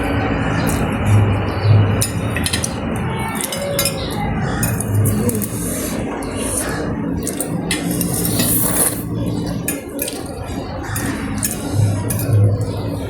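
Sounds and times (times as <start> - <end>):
utensils clinking on a bowl: 0.1 - 13.0.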